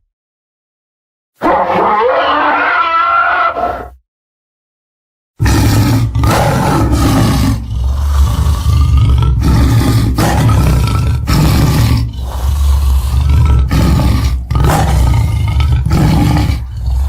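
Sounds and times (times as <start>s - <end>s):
deep dinosaur roars: 1.4s - 3.9s, 5.4s - 17.0s.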